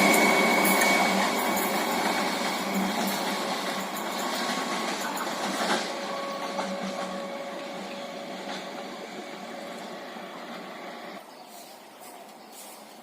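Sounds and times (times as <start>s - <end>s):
electric train rumbling: 0.0s - 11.2s.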